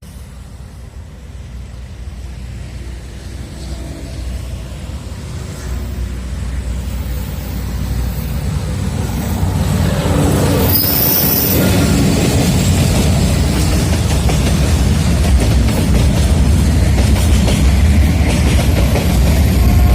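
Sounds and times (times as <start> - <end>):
diesel locomotive engine rumble: 0.0 - 19.9.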